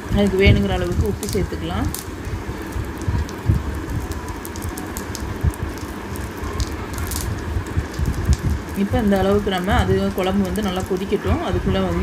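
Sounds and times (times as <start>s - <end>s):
gravy simmering and bubbling: 0.0s - 12.0s.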